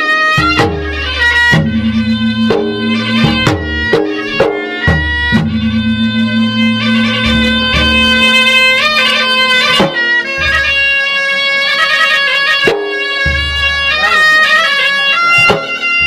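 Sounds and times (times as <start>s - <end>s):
shrill reed wind instrument: 0.0s - 16.0s
drums beaten: 0.2s - 16.0s.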